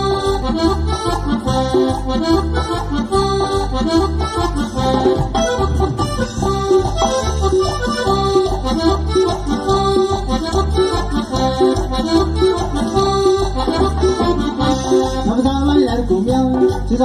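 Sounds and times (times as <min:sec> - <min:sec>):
live cumbia band playing: 0:00.0 - 0:17.0.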